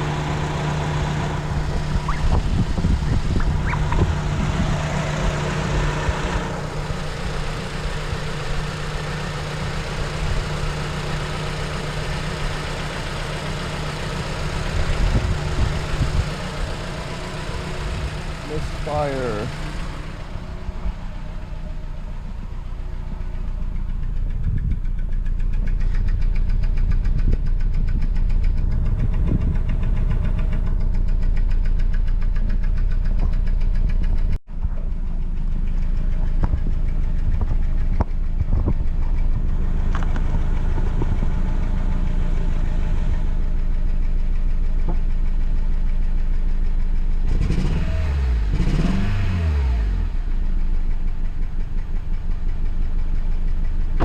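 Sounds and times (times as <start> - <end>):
van engine idling rough: 0.0 - 54.0.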